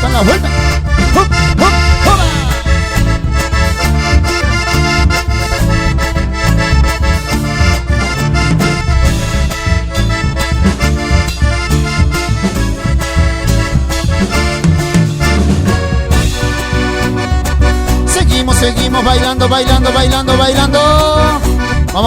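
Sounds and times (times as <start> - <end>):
accordion: 0.0 - 22.0
band playing folk music: 0.0 - 22.0.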